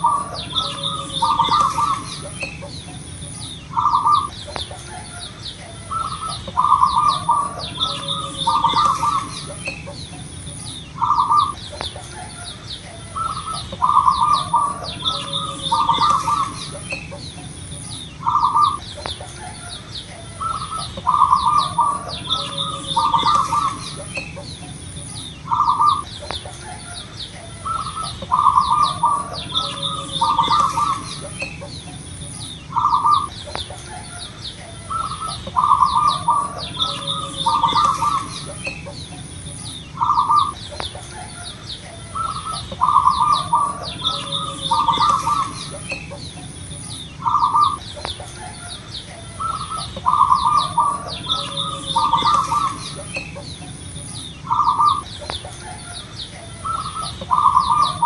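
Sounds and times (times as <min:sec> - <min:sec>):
dove cooing: 0:00.0 - 0:58.0
small birds chirping: 0:00.0 - 0:58.0.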